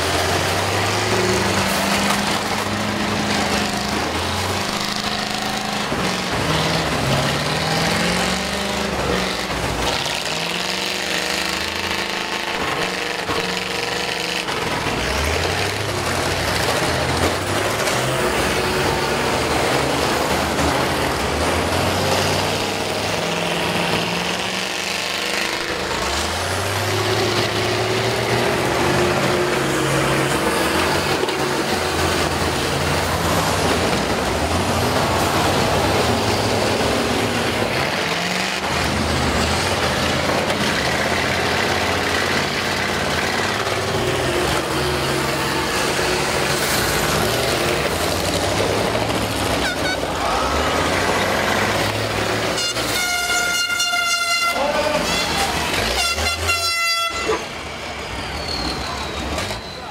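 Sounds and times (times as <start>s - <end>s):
bus engines revving: 0.0s - 59.9s.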